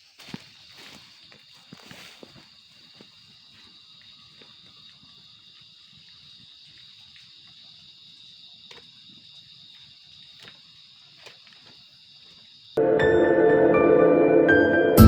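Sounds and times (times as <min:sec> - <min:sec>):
high insect drone: 0:00.0 - 0:12.9.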